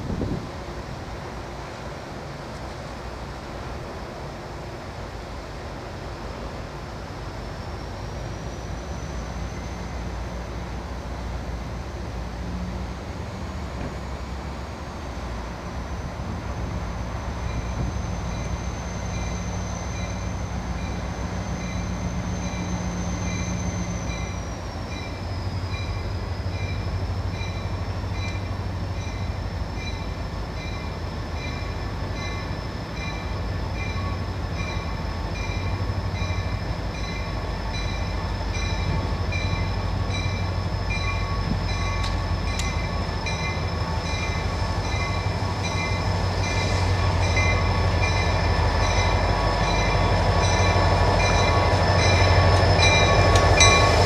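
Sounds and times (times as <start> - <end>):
locomotive engine rumble: 0.0 - 54.0.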